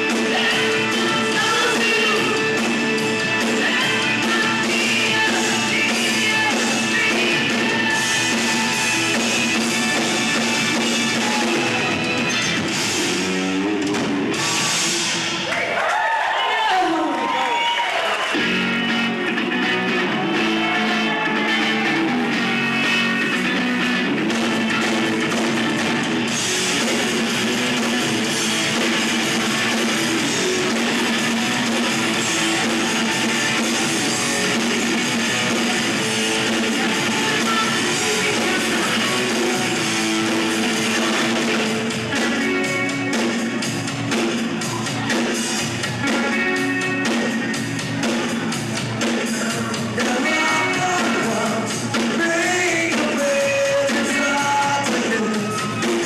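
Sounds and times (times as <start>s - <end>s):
live rock band playing: 0.0s - 15.4s, 18.1s - 56.0s
electric guitar: 0.0s - 15.5s, 17.1s - 56.0s.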